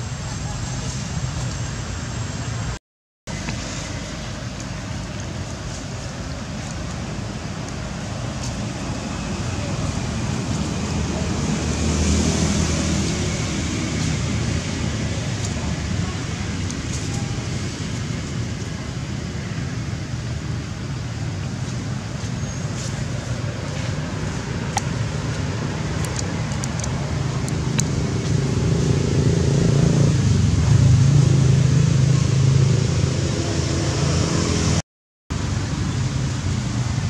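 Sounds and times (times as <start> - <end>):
vehicle engine hum: 0.0 - 37.0.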